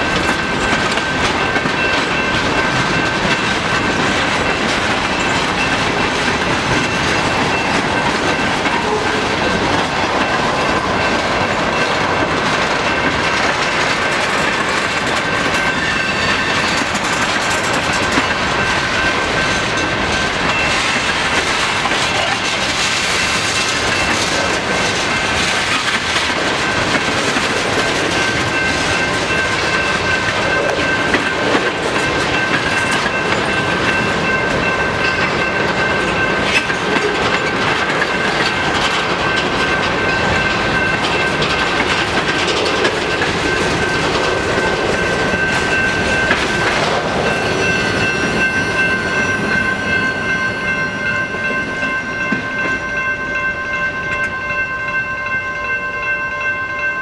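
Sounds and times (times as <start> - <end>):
crossing signal bell ringing: 0.0 - 57.0.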